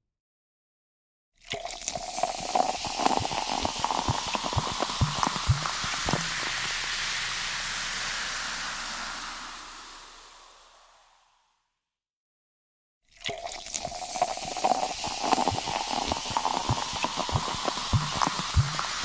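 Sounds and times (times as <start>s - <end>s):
soda bubbles fizzing: 1.4s - 11.1s, 13.1s - 19.0s
soda pouring into a glass: 1.4s - 11.1s, 13.1s - 19.0s.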